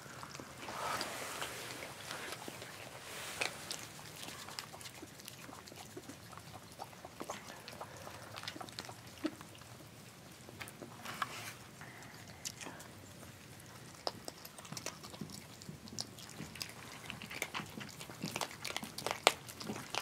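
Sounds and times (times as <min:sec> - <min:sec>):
animals crunching dry food: 0:00.0 - 0:20.0.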